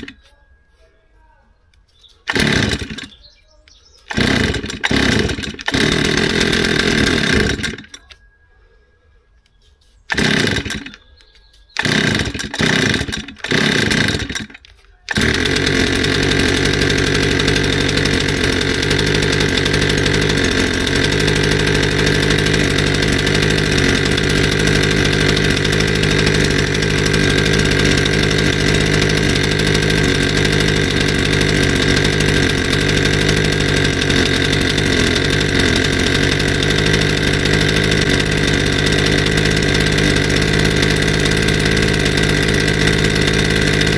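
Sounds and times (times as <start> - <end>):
brushcutter engine starting: 0.0 - 0.2, 2.0 - 3.4, 4.0 - 8.2, 10.1 - 11.1, 11.8 - 43.9.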